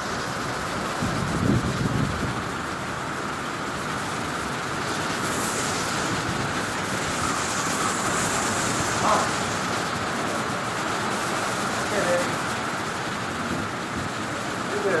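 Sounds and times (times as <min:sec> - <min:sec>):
driving rain: 0:00.0 - 0:15.0
strong wind: 0:00.0 - 0:15.0.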